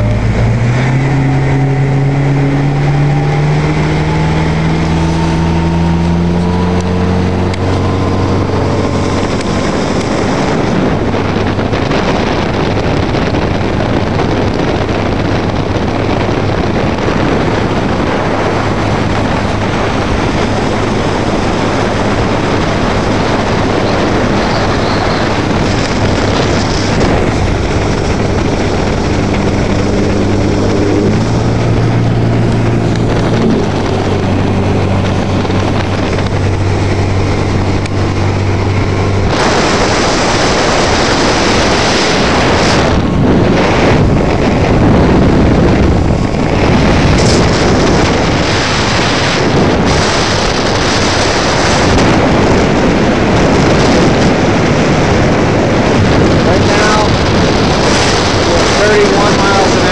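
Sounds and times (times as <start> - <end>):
motorboat engine: 0.0 - 59.9
rush of wind and water: 0.0 - 59.9.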